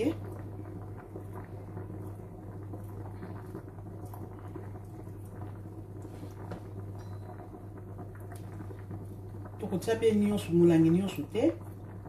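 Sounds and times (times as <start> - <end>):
steady low hum: 0.0 - 12.0
water boiling in a pot: 0.0 - 12.0.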